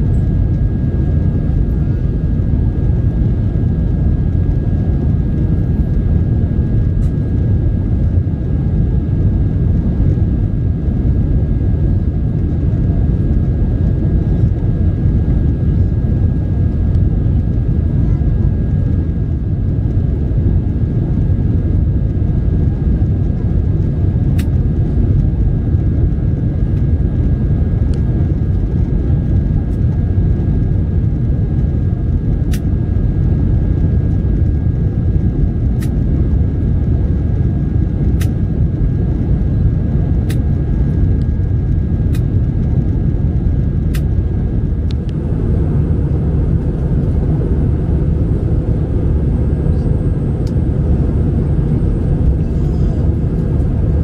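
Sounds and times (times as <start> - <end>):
airflow over fuselage: 0.0 - 54.0
jet engine roar: 0.0 - 54.0.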